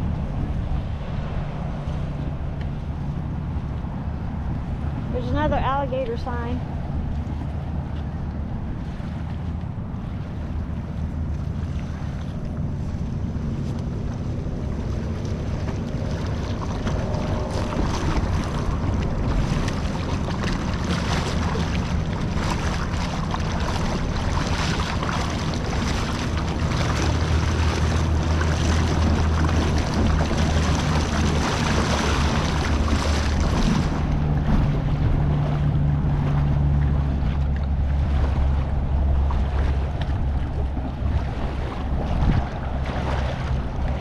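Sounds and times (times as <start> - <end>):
boat motor running: 0.0 - 44.0
rushing water: 0.0 - 44.0
wind: 0.0 - 44.0.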